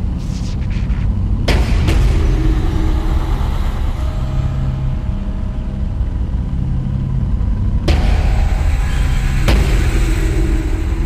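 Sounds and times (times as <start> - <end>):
deep rumbling drone: 0.0 - 11.0.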